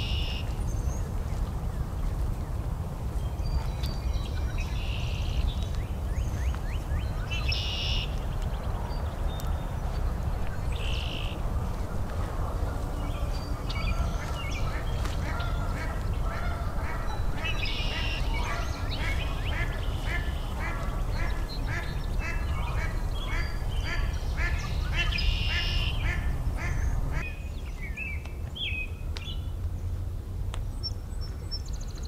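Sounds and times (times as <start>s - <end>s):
steady low rumble: 0.0s - 27.8s
birds singing and calling: 0.0s - 29.6s
rapid series of bird calls: 3.2s - 29.4s.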